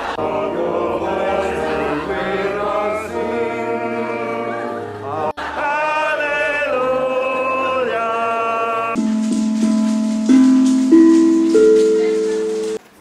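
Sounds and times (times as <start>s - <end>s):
song with long sung notes: 0.0s - 12.8s.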